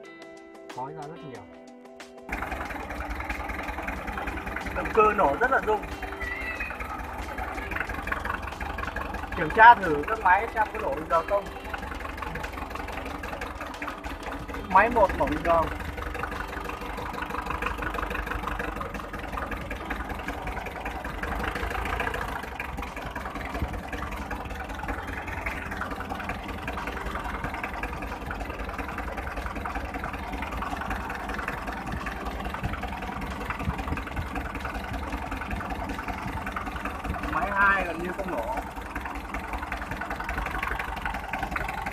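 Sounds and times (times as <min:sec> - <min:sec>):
diesel engine idling roughly: 0:02.3 - 0:41.9.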